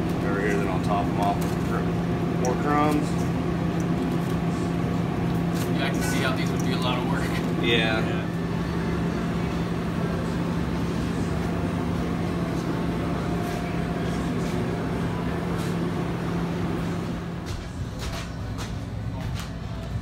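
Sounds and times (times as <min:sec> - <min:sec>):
kitchen machinery hum: 0:00.0 - 0:20.0.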